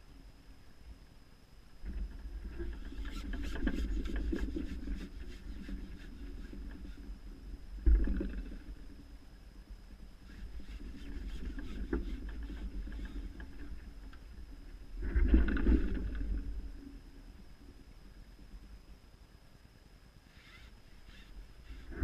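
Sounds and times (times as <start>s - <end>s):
faint high whine: 0.0s - 22.0s
rumbling rustling noise near microphone: 1.8s - 19.0s, 20.2s - 22.0s.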